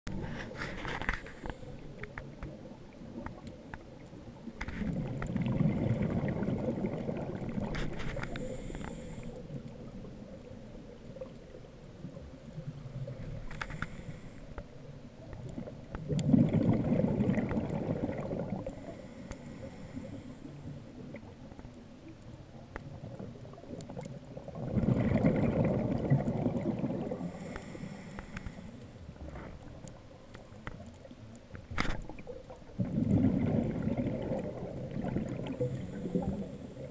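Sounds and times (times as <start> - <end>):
underwater water noise: 0.1 - 36.9.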